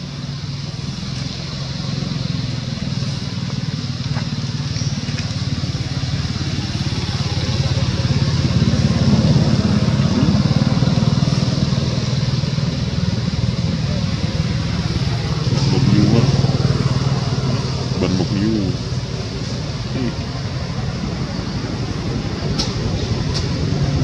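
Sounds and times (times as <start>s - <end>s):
motor engine humming: 0.0s - 24.0s
steady high hiss: 0.0s - 24.0s.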